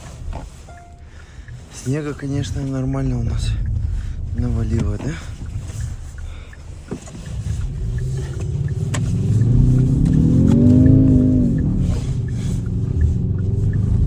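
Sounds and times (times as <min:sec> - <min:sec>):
car engine revving: 0:00.0 - 0:14.0
low rumble: 0:00.0 - 0:14.0.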